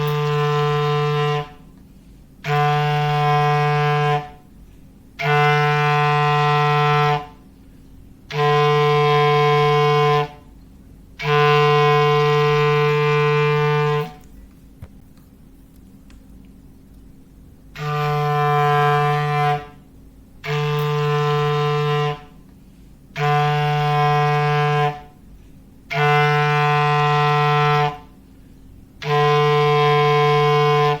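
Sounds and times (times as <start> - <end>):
foghorn blasts: 0.0 - 14.3, 17.6 - 31.0.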